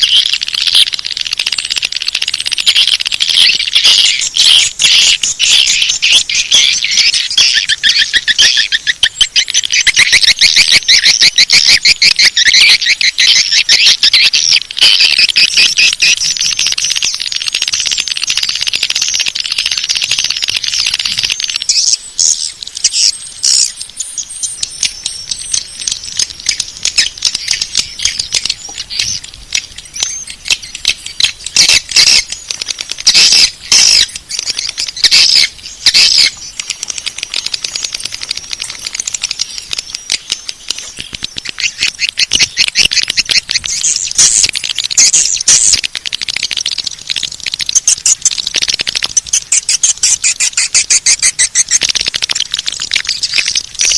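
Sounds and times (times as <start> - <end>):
swiftlet twittering chirps and clicks: 0.0 - 53.9.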